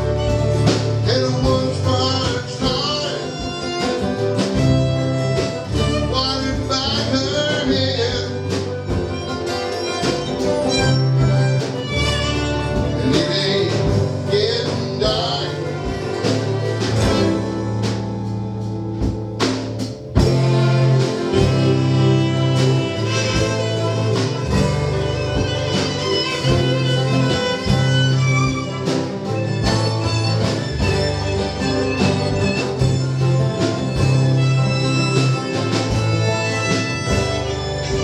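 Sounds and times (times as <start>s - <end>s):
bass line: 0.0s - 38.0s
drum hits: 0.0s - 38.0s
fiddle: 0.0s - 38.0s
guitar: 0.0s - 38.0s.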